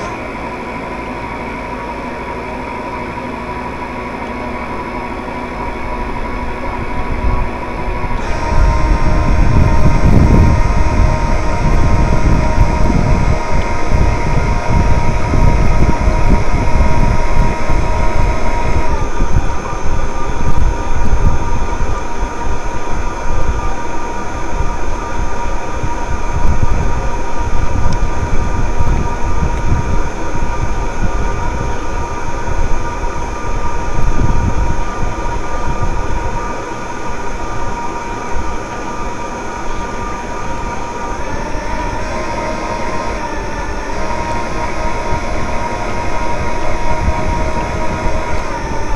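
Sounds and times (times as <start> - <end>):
model ship motor whine: 0.0 - 48.9
wind buffeting microphone: 0.0 - 48.9.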